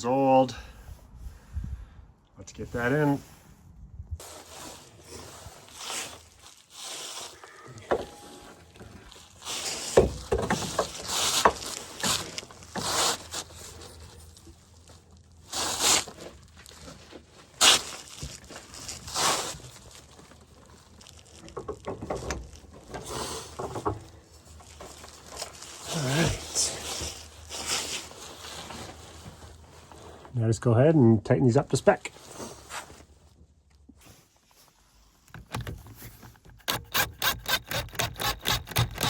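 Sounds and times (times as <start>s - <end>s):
clunks scrapes and rustling: 4.2s - 30.5s, 32.0s - 39.0s.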